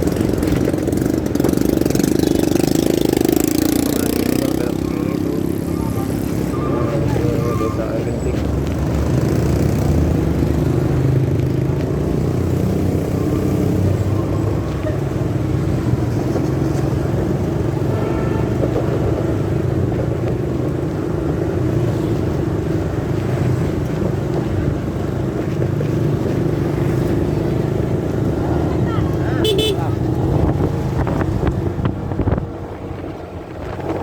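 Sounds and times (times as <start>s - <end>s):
muffled motorcycle rumble: 0.0s - 34.0s.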